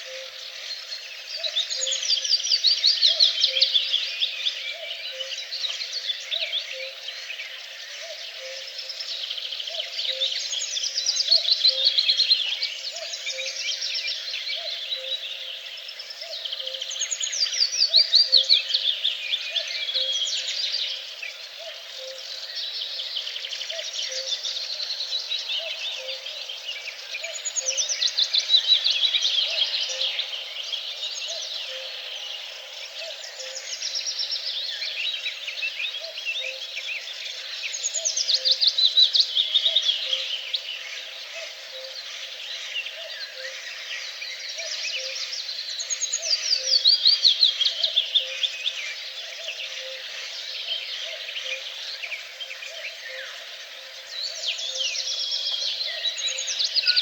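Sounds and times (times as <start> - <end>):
many songbirds singing: 0.0 - 57.0.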